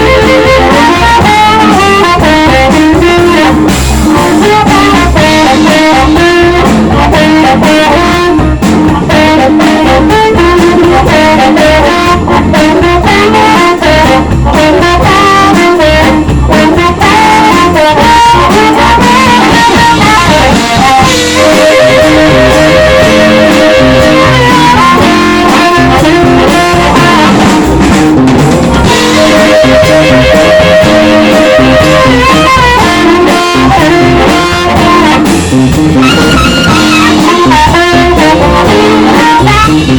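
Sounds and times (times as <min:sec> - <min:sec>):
amplified harmonica: 0:00.0 - 0:39.9
live blues band playing: 0:00.0 - 0:39.9
steady held notes: 0:00.0 - 0:39.9.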